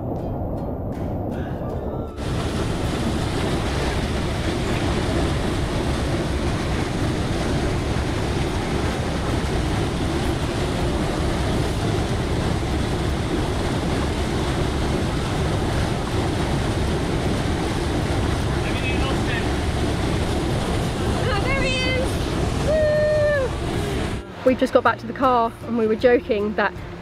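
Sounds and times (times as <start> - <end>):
waterfall rushing: 2.1 - 24.5.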